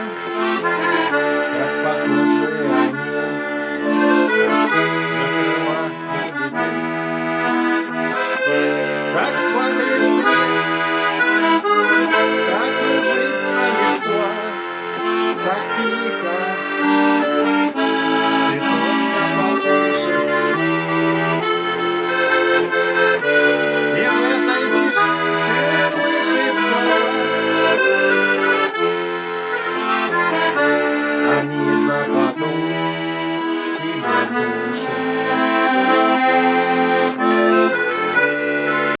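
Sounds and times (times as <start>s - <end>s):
accordion melody: 0.0s - 39.0s.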